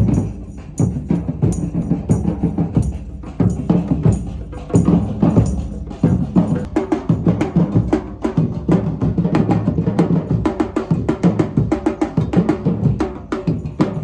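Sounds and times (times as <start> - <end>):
live drums and percussion: 0.0 - 14.0.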